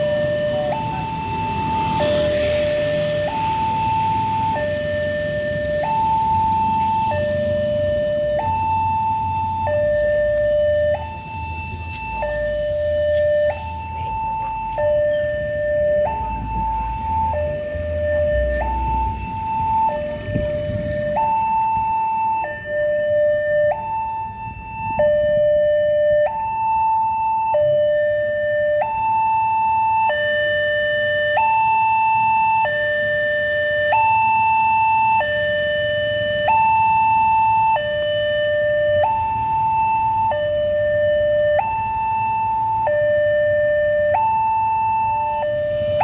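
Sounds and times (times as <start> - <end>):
faint road traffic idling: 0.0 - 46.0
two-tone electronic crossing alarm: 0.0 - 46.0.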